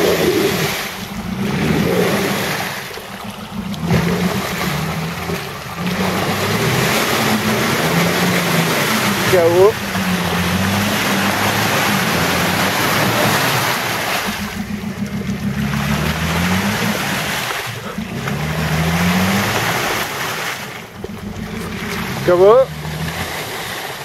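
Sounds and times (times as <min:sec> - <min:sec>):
engine revving: 0:00.0 - 0:24.0
wheels churning through mud: 0:00.0 - 0:24.0.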